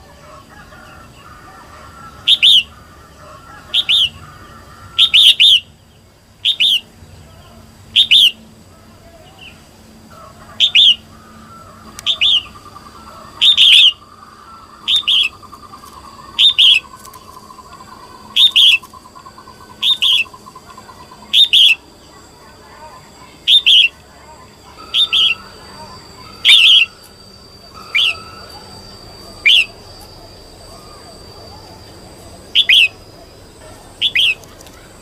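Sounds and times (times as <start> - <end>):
bird chirping call: 0.0 - 8.5, 9.1 - 35.0.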